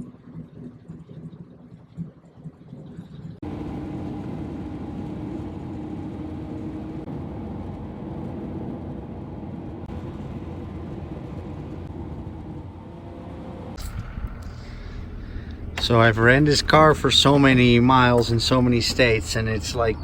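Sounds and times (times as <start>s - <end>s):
car engine cruising: 0.0s - 20.0s.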